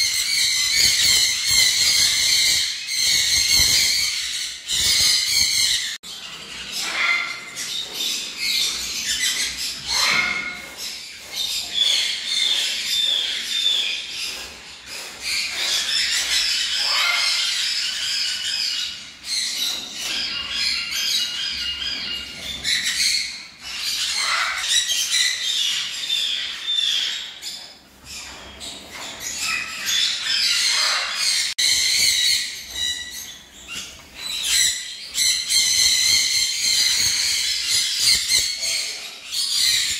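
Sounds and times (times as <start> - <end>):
parrots chirping: 0.0 - 39.9.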